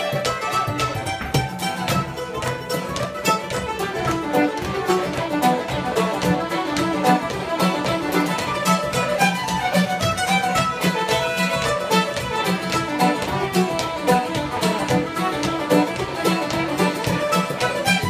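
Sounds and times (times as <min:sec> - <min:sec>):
fiddle playing lively tune: 0:00.0 - 0:18.0
rhythmic accompaniment: 0:00.0 - 0:18.0.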